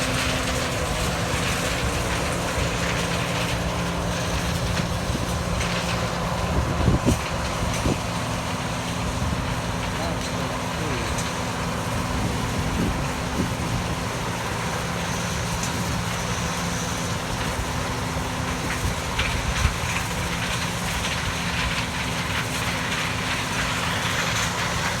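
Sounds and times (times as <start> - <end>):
combine harvester drone: 0.0 - 25.0.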